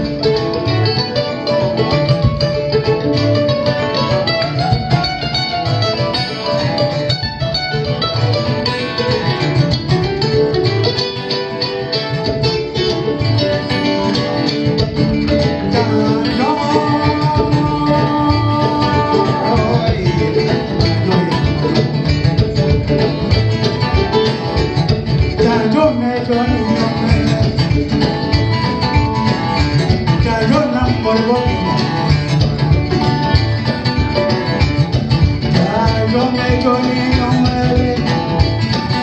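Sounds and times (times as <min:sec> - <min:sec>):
acoustic band playing: 0:00.0 - 0:39.0
plucked string lines: 0:00.0 - 0:39.0.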